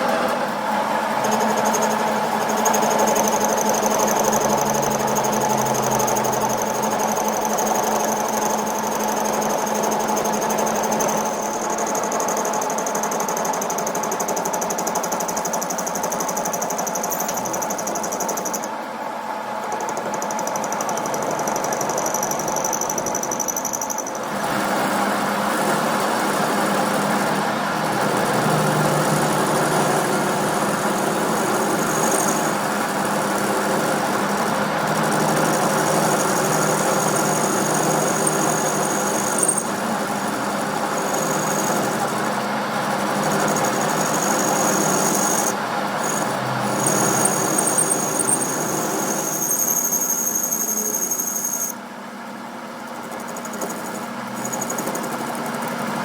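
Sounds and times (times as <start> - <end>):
machine humming with high squeal: 0.0 - 56.0.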